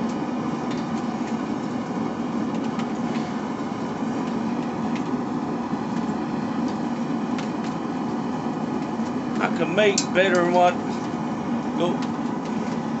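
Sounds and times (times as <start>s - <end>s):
forge running: 0.0s - 13.0s.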